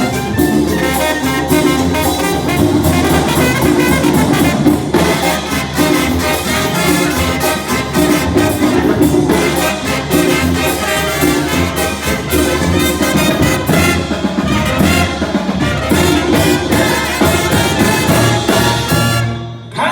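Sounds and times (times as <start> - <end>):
drums keeping a steady beat: 0.0 - 19.6
low brass bass line: 0.0 - 19.6
trumpets and trombones: 0.0 - 19.9.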